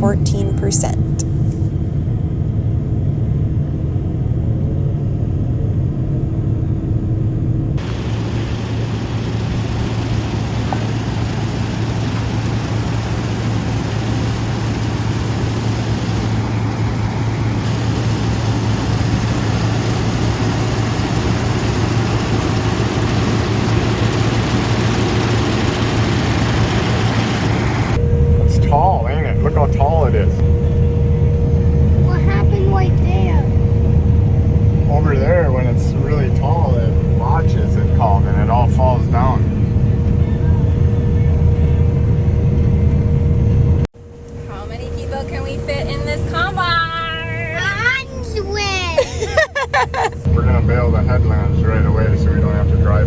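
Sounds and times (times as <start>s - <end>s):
combine engine humming: 0.0s - 1.9s, 7.8s - 43.4s, 44.0s - 53.0s.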